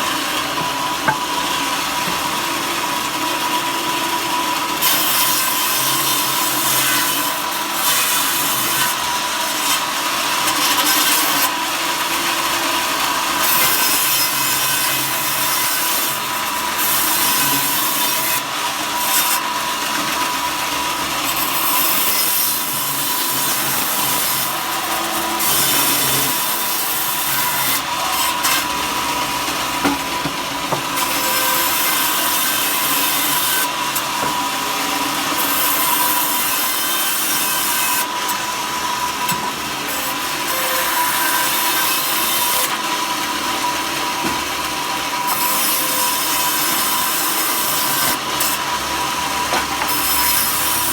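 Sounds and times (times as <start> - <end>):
power saw cutting wood: 0.0 - 50.9.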